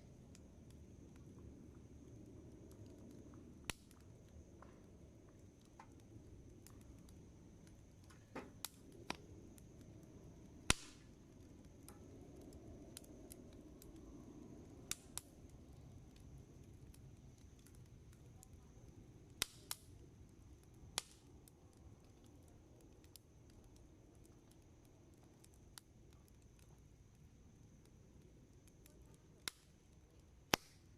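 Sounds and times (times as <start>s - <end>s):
campfire pops: 0.0s - 30.9s
soft rush of burning: 0.0s - 30.9s.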